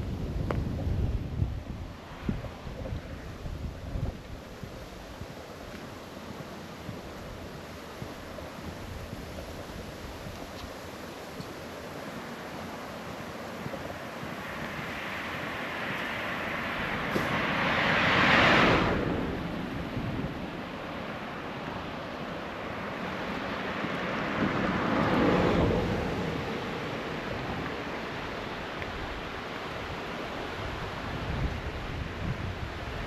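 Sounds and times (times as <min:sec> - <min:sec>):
outdoor rushing noise: 0:00.0 - 0:33.0.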